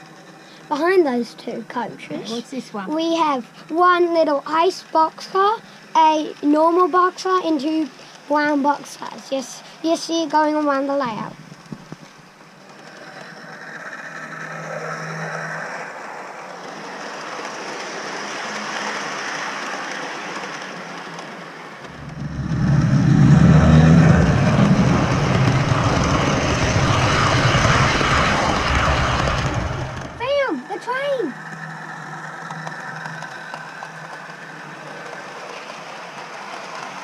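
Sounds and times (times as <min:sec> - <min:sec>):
model train wheels rolling: 0:00.0 - 0:37.0.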